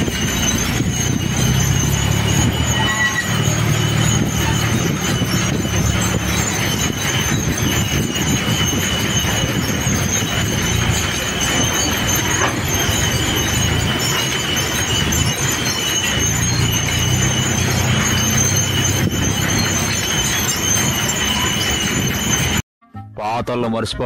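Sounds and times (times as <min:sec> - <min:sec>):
steady high squeal: 0:00.0 - 0:22.6
tractor engine running under load: 0:00.0 - 0:22.6.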